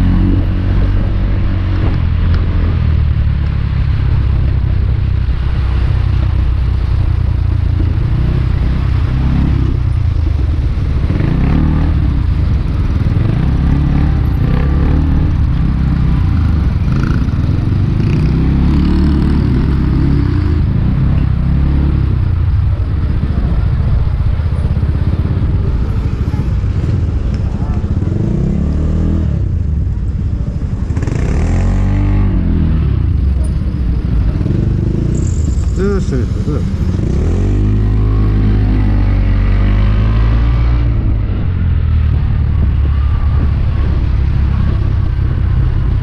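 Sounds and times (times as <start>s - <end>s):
road and wind noise: 0.0s - 46.0s.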